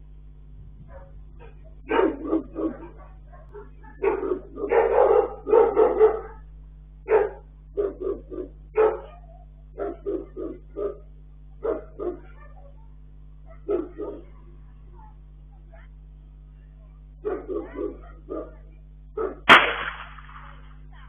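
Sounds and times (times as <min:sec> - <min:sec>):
microphone low hum: 0:00.0 - 0:21.0
dog barking: 0:00.9 - 0:06.5, 0:07.1 - 0:16.0, 0:16.8 - 0:19.5.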